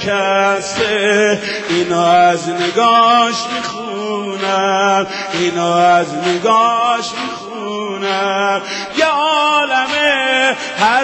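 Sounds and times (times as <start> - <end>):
man singing a lament into microphone: 0.0 - 11.0.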